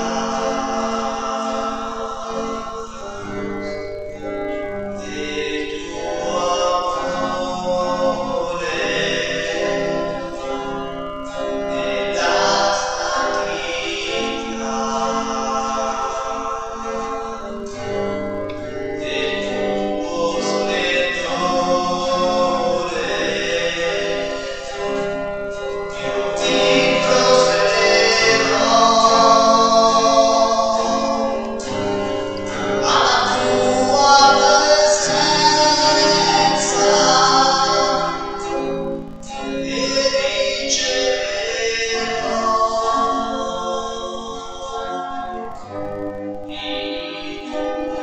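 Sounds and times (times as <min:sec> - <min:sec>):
choir singing a hymn: 0:00.0 - 0:48.0.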